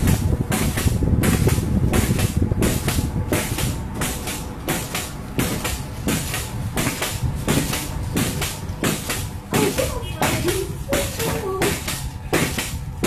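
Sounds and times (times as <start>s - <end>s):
pogo stick clattering on tile: 0.0s - 13.0s.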